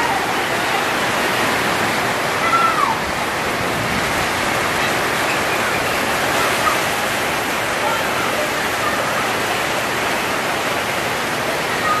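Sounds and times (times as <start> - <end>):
heavy rain on a tin roof: 0.0 - 12.0.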